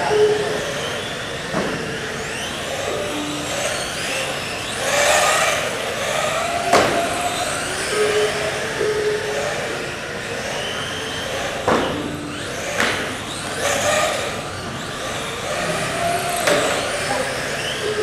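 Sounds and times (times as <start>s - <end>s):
small rc car engines revving: 0.0s - 18.0s.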